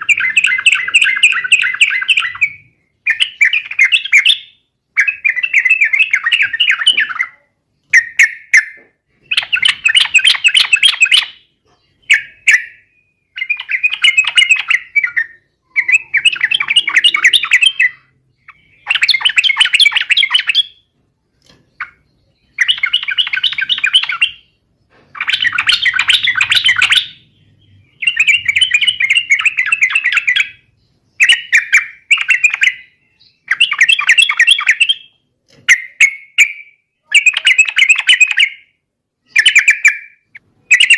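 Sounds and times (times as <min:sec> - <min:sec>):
bulbul singing fast song: 0:00.0 - 0:20.9, 0:21.7 - 0:40.9.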